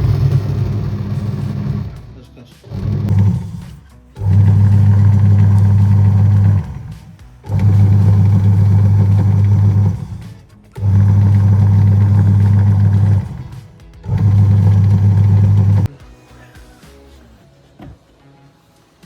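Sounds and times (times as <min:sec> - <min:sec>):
washing machine motor humming: 0:00.0 - 0:15.9.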